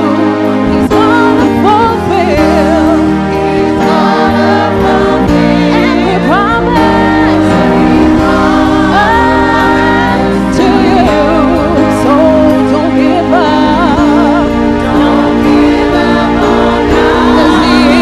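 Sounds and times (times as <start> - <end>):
sustained chords: 0.0 - 18.0
voices singing gospel: 0.0 - 18.0.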